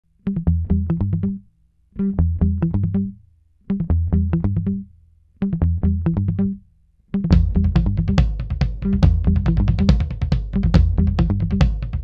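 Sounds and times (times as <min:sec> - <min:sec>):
plucked guitar and bass riff: 0:00.2 - 0:12.0.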